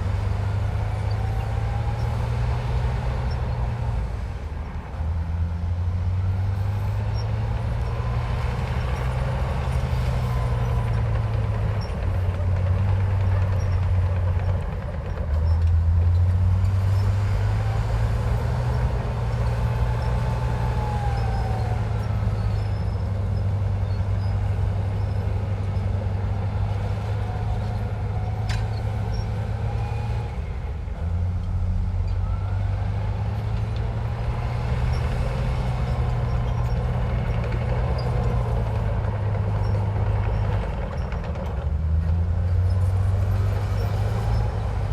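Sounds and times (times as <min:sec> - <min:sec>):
heavy diesel machinery engine: 0:00.0 - 0:44.9.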